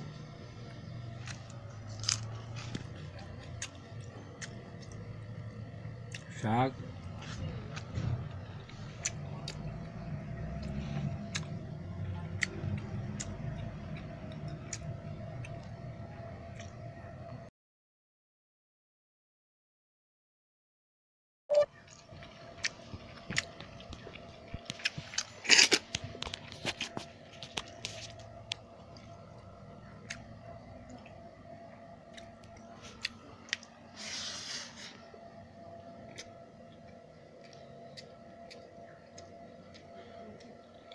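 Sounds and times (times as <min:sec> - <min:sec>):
steady low hum: 0:00.0 - 0:17.5, 0:21.6 - 0:40.9
person chewing and crunching: 0:00.9 - 0:15.8, 0:16.5 - 0:16.8, 0:21.8 - 0:40.9.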